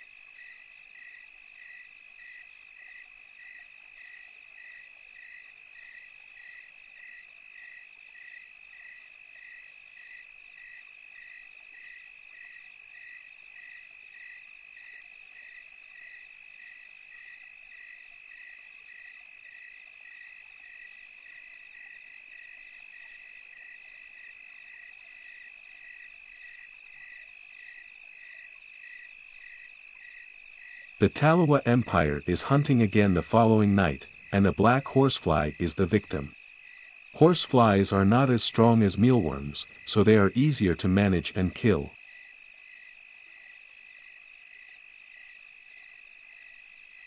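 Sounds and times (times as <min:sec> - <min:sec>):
insect chirping: 0:00.0 - 0:47.0
insects trilling: 0:00.0 - 0:47.0.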